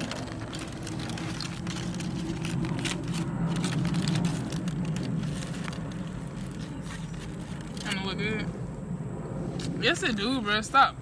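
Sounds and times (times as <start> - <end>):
paper wrapper crackling: 0.0 - 8.8
steady low hum: 0.0 - 11.0.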